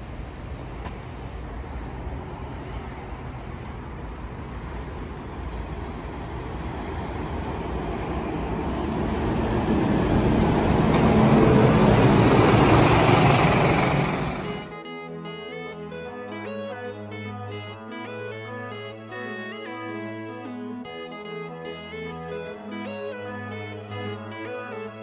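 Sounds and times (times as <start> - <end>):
bus passing: 0.0 - 14.8, 15.4 - 25.0.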